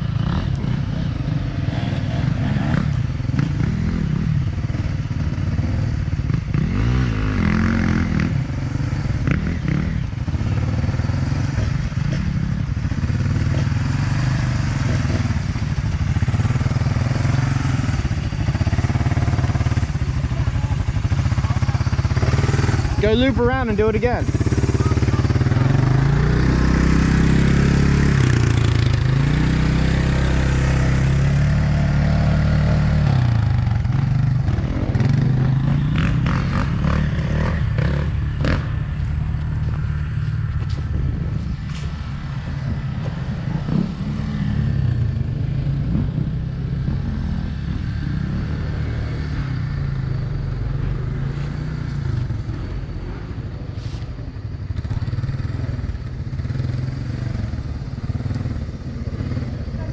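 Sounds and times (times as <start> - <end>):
atv engine revving: 0.0 - 53.3, 54.7 - 59.9.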